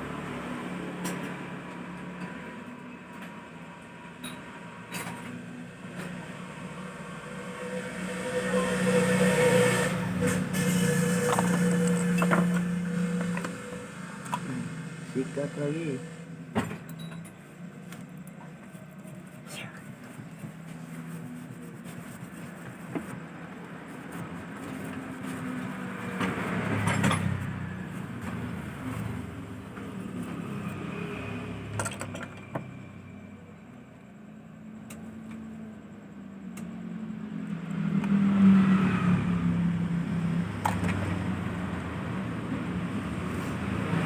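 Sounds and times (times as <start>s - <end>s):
passing road vehicles: 0.0s - 18.9s, 19.8s - 34.8s, 35.6s - 44.0s.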